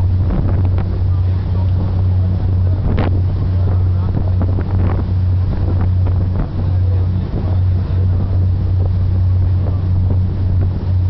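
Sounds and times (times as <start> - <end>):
boat engines droning: 0.0 - 11.0
rushing air and water: 0.0 - 11.0
wind on microphone: 0.0 - 11.0.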